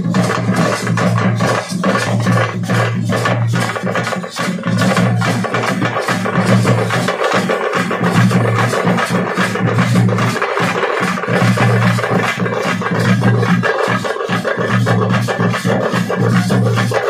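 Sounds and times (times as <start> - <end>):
frame drums beating fast rhythm: 0.0 - 17.0.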